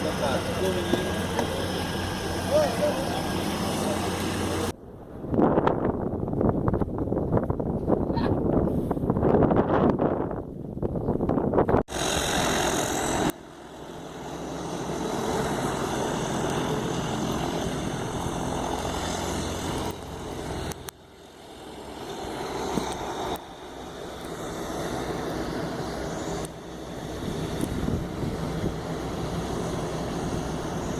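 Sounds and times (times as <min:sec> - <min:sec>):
turboprop engines running: 0:00.0 - 0:07.6, 0:11.8 - 0:30.9.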